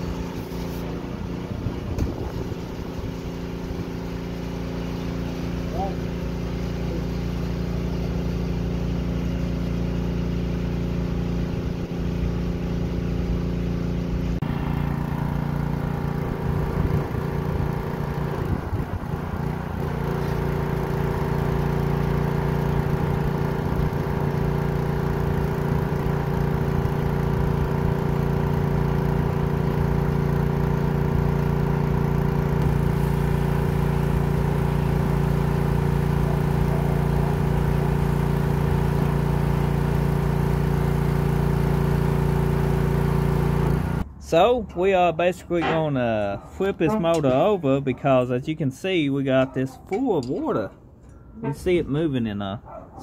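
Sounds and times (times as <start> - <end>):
pressure washer engine running: 0.0 - 44.6, 45.6 - 49.2.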